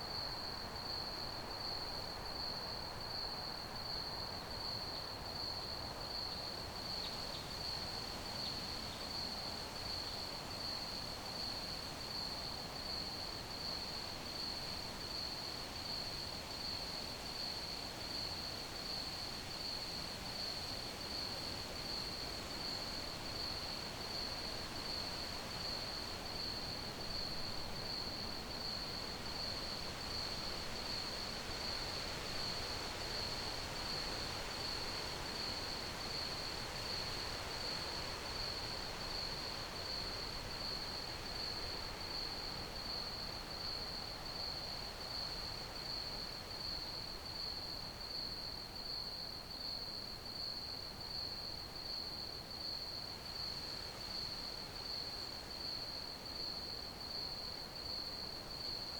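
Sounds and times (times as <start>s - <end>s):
crickets chirping: 5.5s - 58.9s
background hiss: 7.6s - 58.9s.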